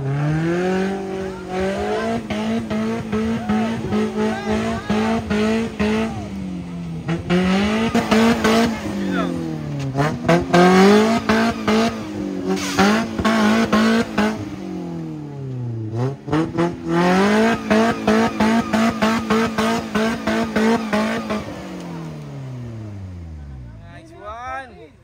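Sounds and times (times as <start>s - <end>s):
off-road engine revving: 0.0s - 24.7s.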